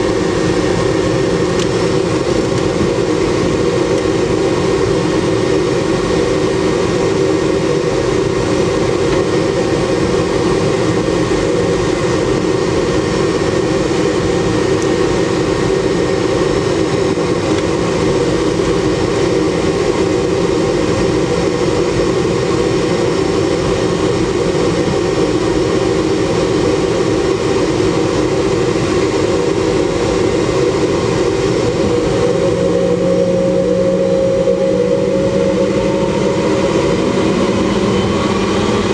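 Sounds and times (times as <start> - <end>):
jet engines humming in cabin: 0.0 - 38.9.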